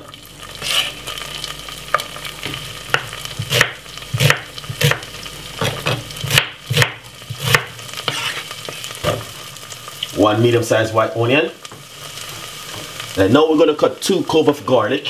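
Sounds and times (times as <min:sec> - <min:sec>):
onion sizzling in butter: 0:00.0 - 0:15.0.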